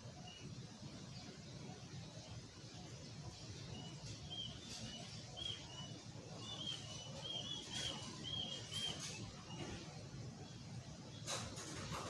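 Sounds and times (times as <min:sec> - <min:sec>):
small bird chirping: 0:00.0 - 0:11.4.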